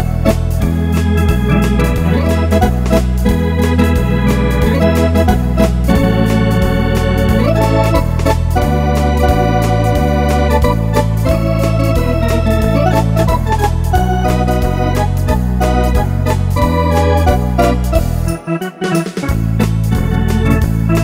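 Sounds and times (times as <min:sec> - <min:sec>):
drum machine beat: 0:00.0 - 0:21.0
electronic organ playing foxtrot: 0:00.0 - 0:21.0.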